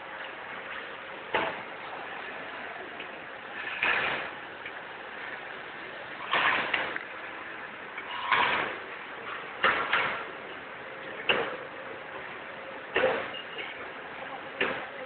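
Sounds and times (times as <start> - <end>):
machine running noise: 0.0 - 15.0.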